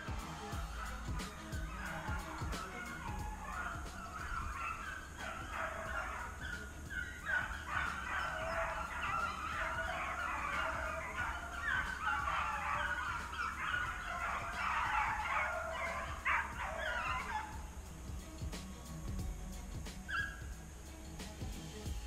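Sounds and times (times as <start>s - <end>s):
hunting dogs baying and yelping: 0.0s - 21.9s.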